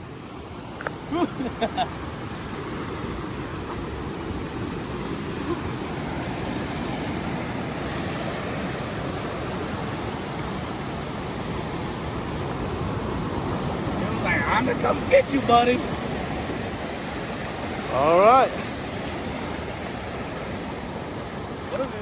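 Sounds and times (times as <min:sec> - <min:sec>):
ocean surf: 0:00.0 - 0:22.0
wind: 0:00.0 - 0:22.0.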